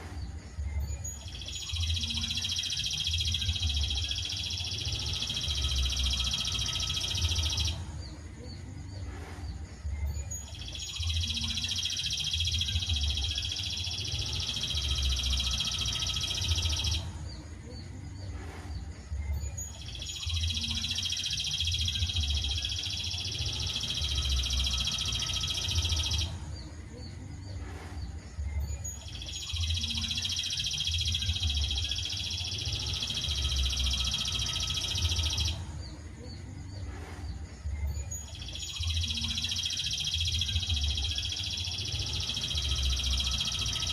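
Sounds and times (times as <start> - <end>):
faint bird chirps: 0.0 - 43.9.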